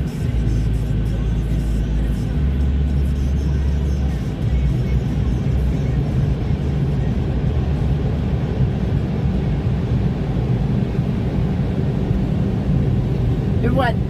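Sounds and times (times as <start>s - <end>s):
low rumble inside a car: 0.0s - 14.0s.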